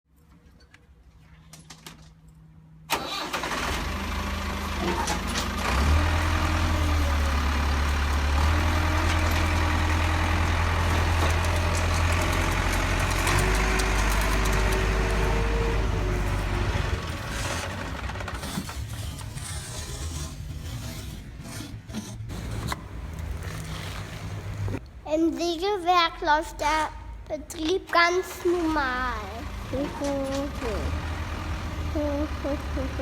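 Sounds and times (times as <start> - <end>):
vehicle engine starting and running: 2.5 - 24.9, 27.9 - 33.0.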